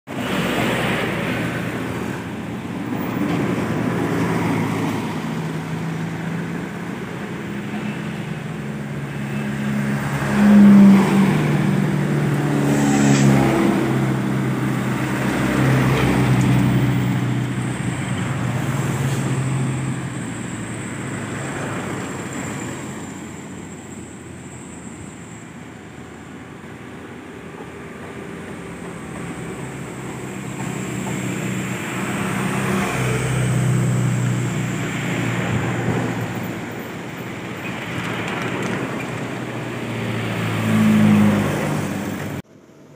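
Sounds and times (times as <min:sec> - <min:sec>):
truck and bus engines passing: 0:00.1 - 0:42.9.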